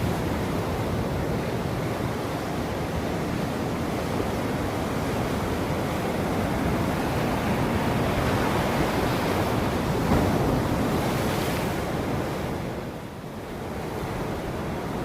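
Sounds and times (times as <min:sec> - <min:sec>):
ocean waves washing onto shore: 0:00.0 - 0:15.0.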